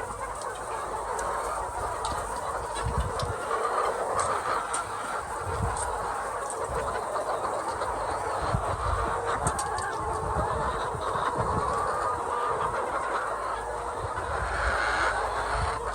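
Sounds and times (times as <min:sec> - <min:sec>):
hens clucking: 0:00.0 - 0:15.9.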